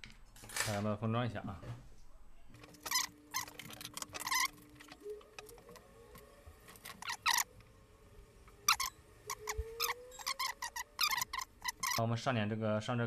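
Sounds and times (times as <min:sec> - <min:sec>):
faint steady hum: 0:01.4 - 0:13.0.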